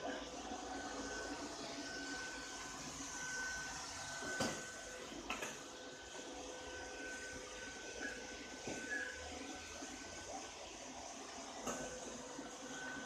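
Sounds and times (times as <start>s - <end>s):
robot vacuum cleaner whirring: 0.0s - 13.0s.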